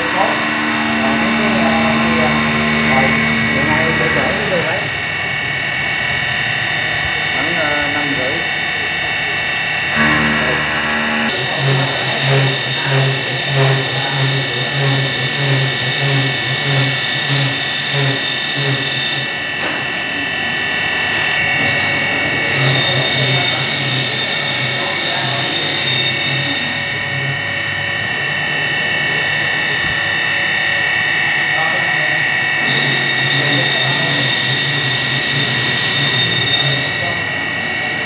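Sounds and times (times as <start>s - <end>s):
milling machine cutting whine: 0.0s - 38.0s.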